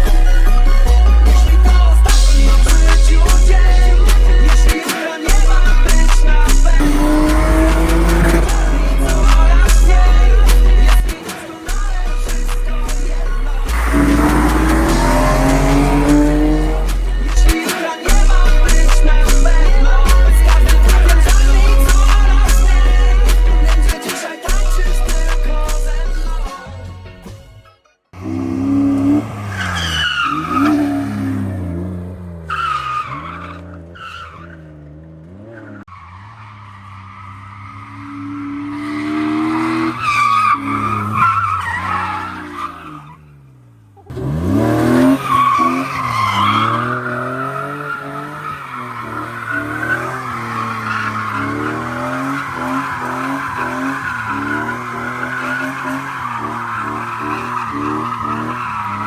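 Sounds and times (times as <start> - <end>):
car engine revving: 0.7 - 24.0, 28.2 - 59.0
tyres squealing: 2.1 - 4.8, 5.6 - 22.2, 28.2 - 34.7, 35.9 - 59.0.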